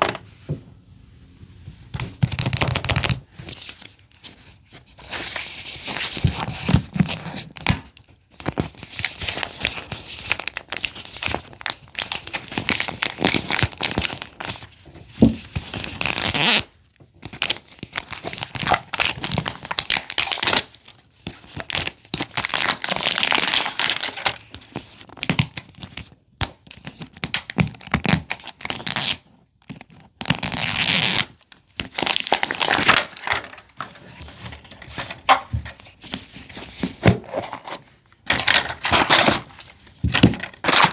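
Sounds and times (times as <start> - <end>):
plastic packaging crinkling and tearing: 2.0 - 40.9.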